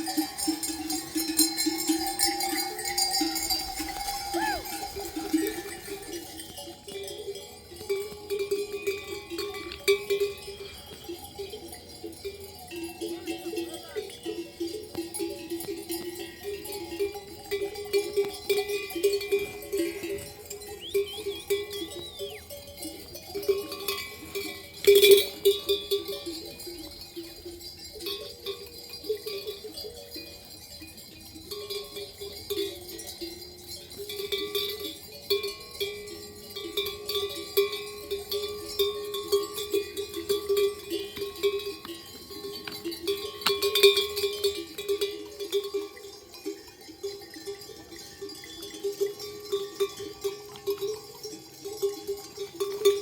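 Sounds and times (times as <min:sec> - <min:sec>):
livestock bells clanking: 0:00.0 - 0:53.0.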